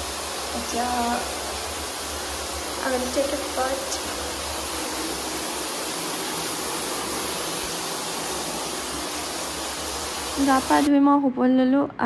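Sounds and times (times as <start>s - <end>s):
water running from bathtub tap: 0.0s - 10.9s.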